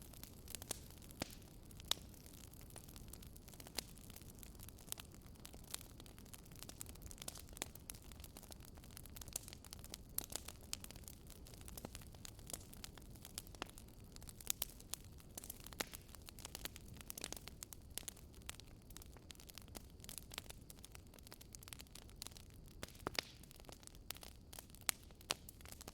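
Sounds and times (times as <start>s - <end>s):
wood crackling and popping: 0.0s - 25.9s.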